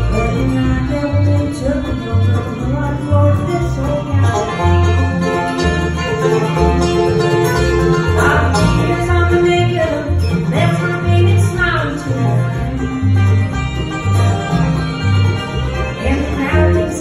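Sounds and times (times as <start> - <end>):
acoustic guitar: 0.0 - 17.0
banjo: 0.0 - 17.0
fiddle: 0.0 - 17.0
mandolin: 0.0 - 17.0
upright bass plucking: 0.0 - 17.0.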